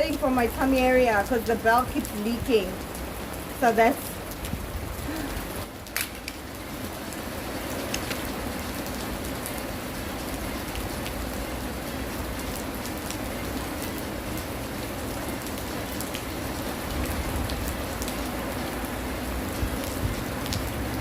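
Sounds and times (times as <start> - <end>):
heavy rain falling: 0.0 - 21.0
raindrops ticking close by: 0.0 - 21.0.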